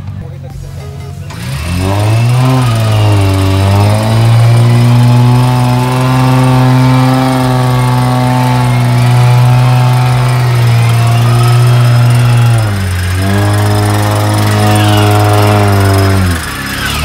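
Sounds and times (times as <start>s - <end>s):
engine droning at high revs: 1.2s - 17.0s.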